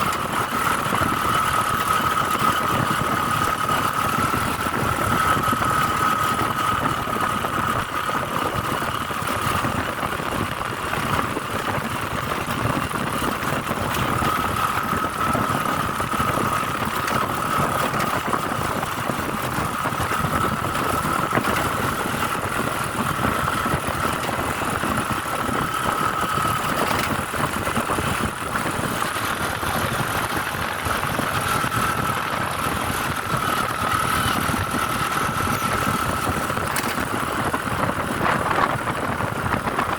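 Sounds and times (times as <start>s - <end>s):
high steady whine: 0.0s - 39.9s
vehicle engine and road noise: 0.0s - 39.9s.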